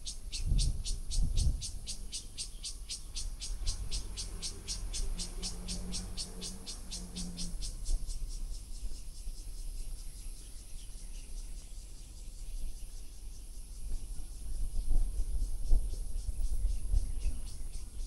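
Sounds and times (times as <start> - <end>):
high-pitched insect drone: 0.0 - 18.0
insect rhythmic chirping: 0.0 - 18.0
wind rumble on microphone: 0.0 - 18.0.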